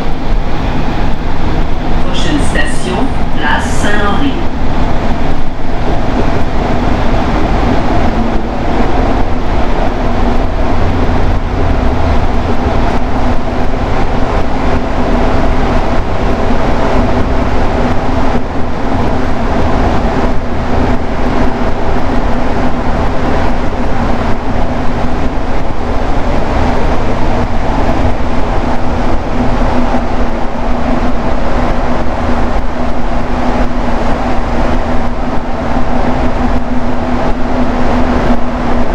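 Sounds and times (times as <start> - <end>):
constant hum: 0.0 - 38.9
metro train rumbling: 0.0 - 38.9.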